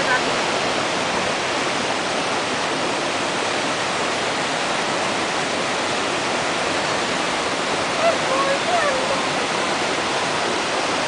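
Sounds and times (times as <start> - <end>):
water running over stones: 0.0 - 11.0
waterfall pouring into pool: 0.0 - 11.0.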